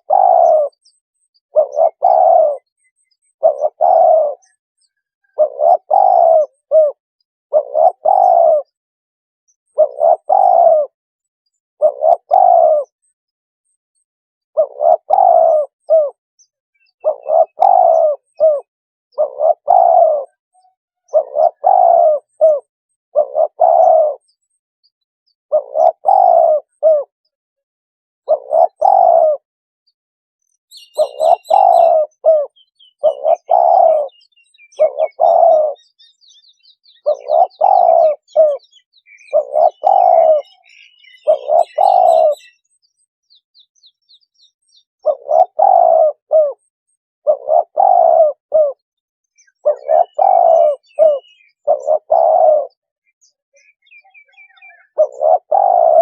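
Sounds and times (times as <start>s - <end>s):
dove cooing: 0.0s - 8.8s, 9.7s - 11.0s, 11.8s - 13.0s, 14.6s - 16.2s, 16.8s - 24.6s, 25.5s - 27.2s, 28.2s - 29.4s, 30.7s - 42.7s, 45.0s - 48.8s, 49.4s - 56.0s
small birds chirping: 0.0s - 8.8s, 9.4s - 27.4s, 28.2s - 56.0s.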